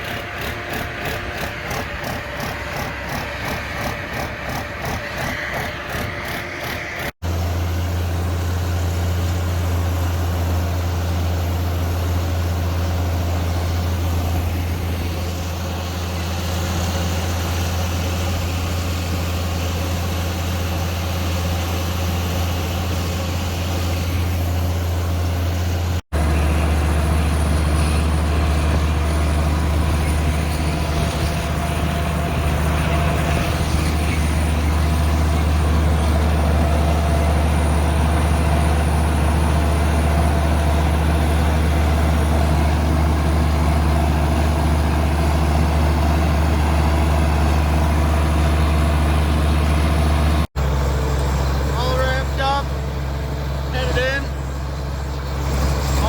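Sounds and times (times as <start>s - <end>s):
heavy engine droning: 0.0s - 56.0s.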